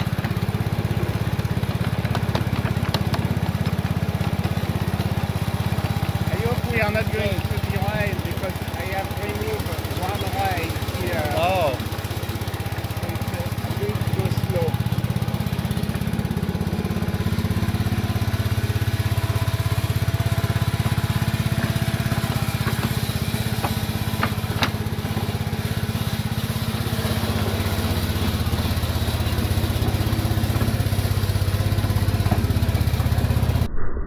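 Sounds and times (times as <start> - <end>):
small locomotive engine running: 0.0 - 33.7.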